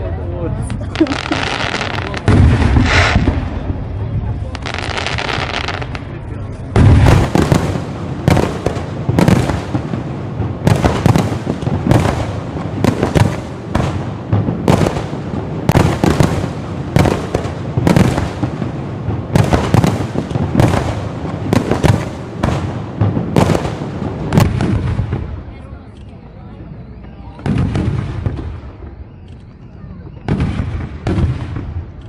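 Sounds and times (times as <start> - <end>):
fireworks bangs: 0.6 - 32.0.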